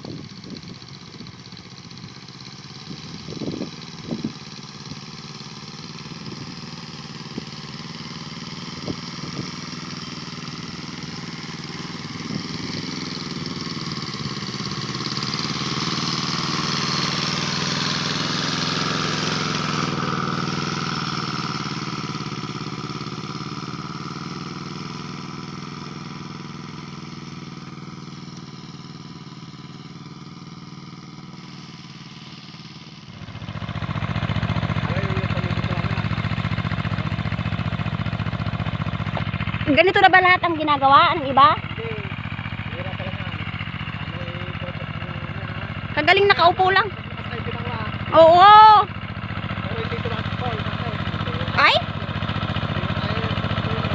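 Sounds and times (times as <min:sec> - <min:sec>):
small farm machine engine running: 0:00.0 - 0:53.9.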